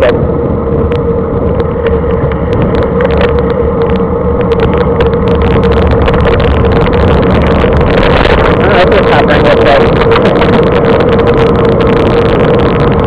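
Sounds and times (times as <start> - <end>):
steady hum: 0.0 - 13.0
wind noise on microphone: 0.0 - 13.0.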